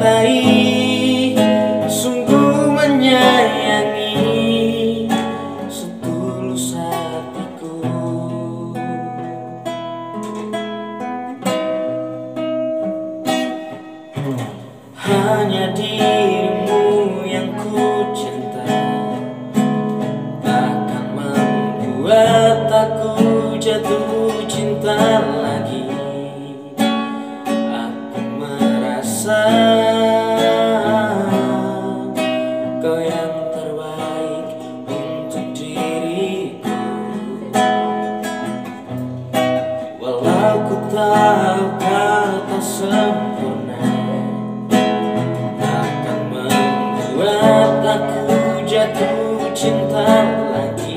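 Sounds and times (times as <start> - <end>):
strummed acoustic guitar: 0.0 - 50.9.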